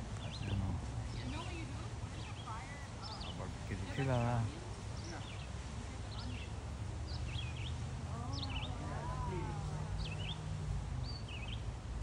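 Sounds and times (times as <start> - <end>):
faint distant voices: 0.0 - 11.6
songbird singing: 0.0 - 11.9.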